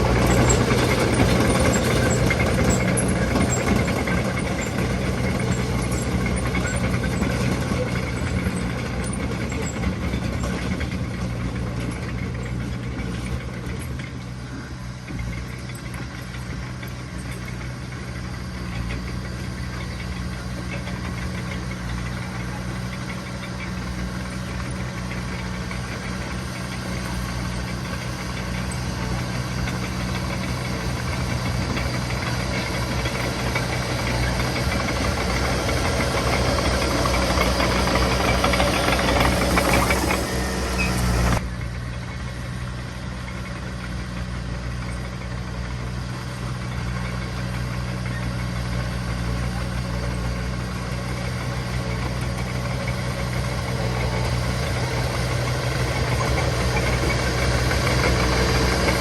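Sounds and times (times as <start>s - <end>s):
diesel machinery engine running: 0.0s - 59.0s
loud rough machine noise: 0.0s - 59.0s.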